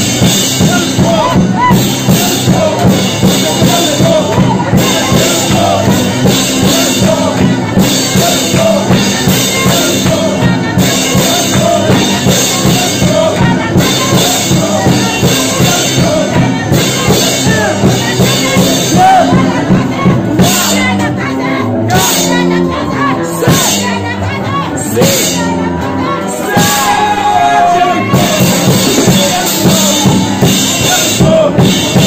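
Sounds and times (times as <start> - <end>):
drum kit steady beat: 0.0 - 22.6, 26.4 - 32.0
loud worship music: 0.0 - 32.0.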